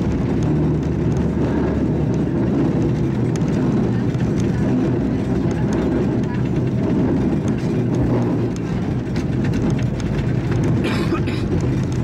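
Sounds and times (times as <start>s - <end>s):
vehicle rumbling on street: 0.0s - 12.0s.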